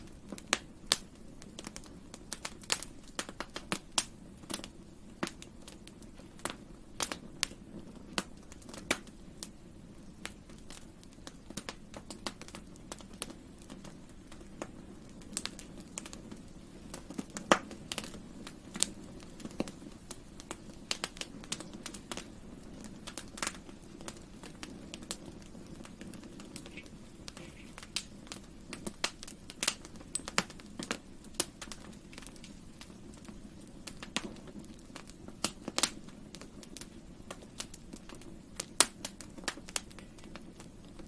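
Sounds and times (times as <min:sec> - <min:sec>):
rush of flames: 0:00.0 - 0:41.0
wood crackling and popping: 0:00.0 - 0:41.0.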